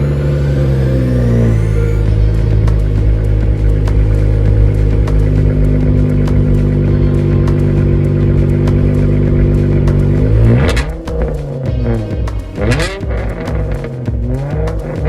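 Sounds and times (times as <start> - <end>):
car exhaust idling: 0.0 - 15.0
engine throttle blip: 0.0 - 15.0.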